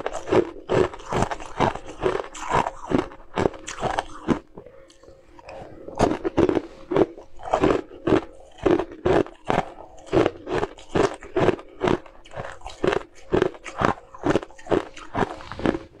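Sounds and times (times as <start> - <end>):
ice bar crunching between teeth: 0.0 - 16.0.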